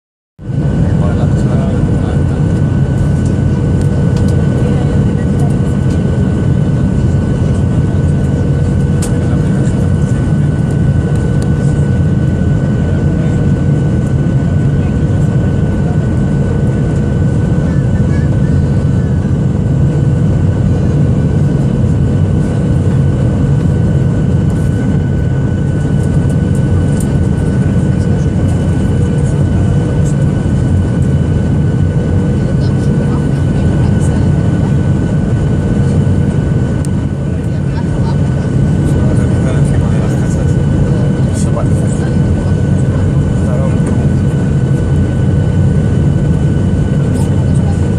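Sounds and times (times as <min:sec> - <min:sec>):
airplane cabin engine rumble: 0:00.4 - 0:47.9.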